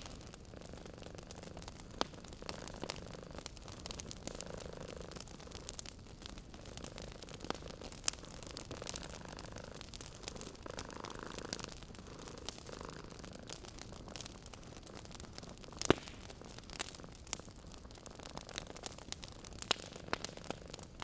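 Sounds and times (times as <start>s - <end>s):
cat purring: 0.0s - 21.0s
wood fire crackling: 0.0s - 21.0s.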